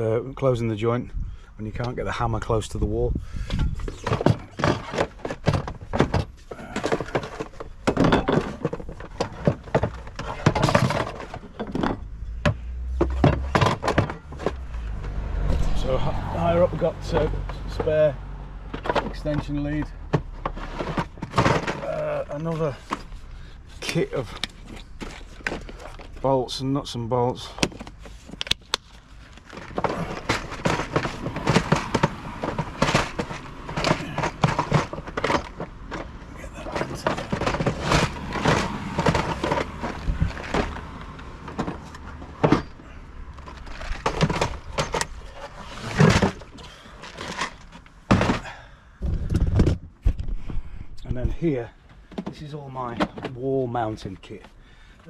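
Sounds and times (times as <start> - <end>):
tools and cases knocking and clattering: 3.3 - 15.8, 16.7 - 26.4, 27.4 - 53.4.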